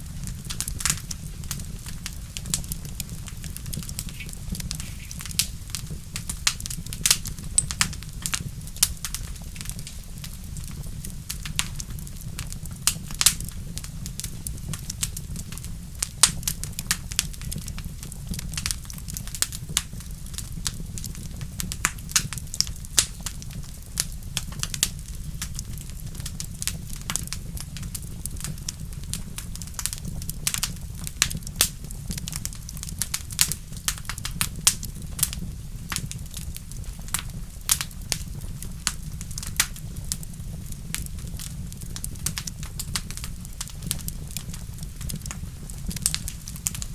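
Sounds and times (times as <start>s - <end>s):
low fire rumble: 0.0s - 46.9s
wood fire crackling and popping: 0.0s - 46.9s.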